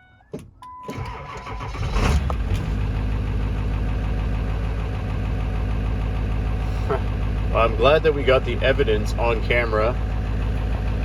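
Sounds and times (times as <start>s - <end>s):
diesel engine cranking and idling: 0.0s - 11.0s.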